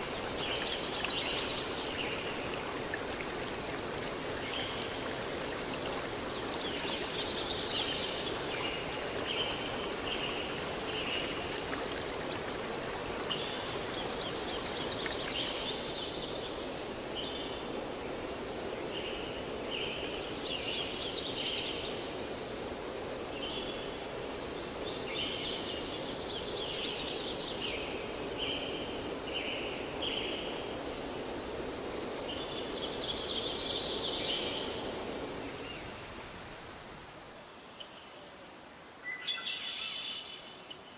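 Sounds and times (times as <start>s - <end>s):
forest stream rushing: 0.0s - 37.6s.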